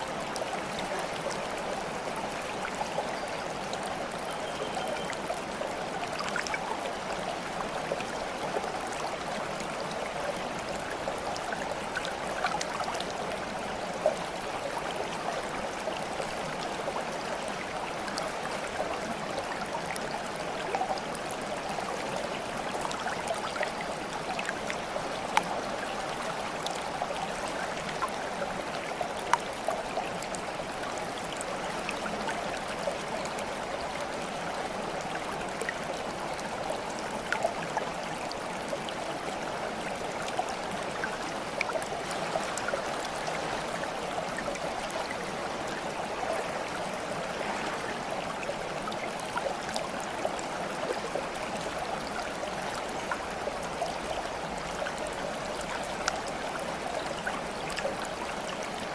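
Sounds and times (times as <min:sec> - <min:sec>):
stream babbling: 0:00.0 - 0:58.9
water splashes: 0:00.0 - 0:58.9.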